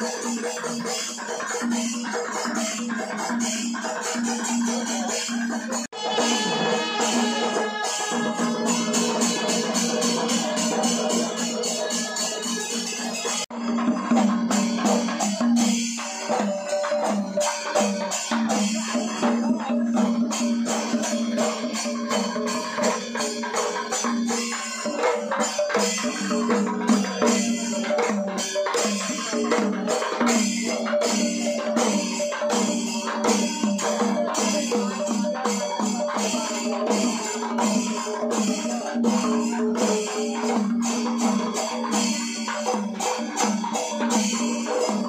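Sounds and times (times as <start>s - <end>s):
jingling and tapping percussion: 0.0s - 45.0s.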